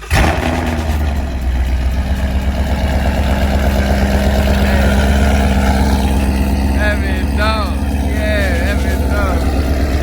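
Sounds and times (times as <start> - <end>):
car engine starting and idling: 0.0 - 10.0.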